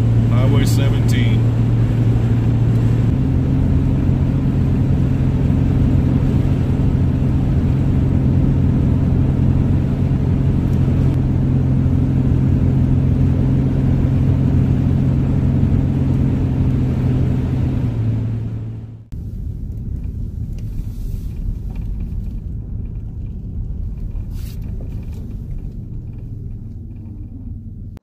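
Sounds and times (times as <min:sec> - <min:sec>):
road and tyre noise: 0:00.0 - 0:28.0
van engine hum: 0:00.0 - 0:28.0.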